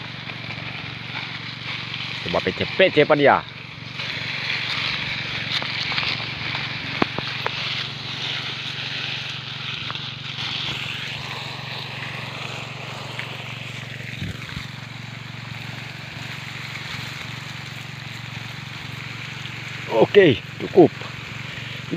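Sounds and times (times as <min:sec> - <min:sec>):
hose spraying onto leaves: 0:00.0 - 0:21.9
low motor hum: 0:00.0 - 0:21.9.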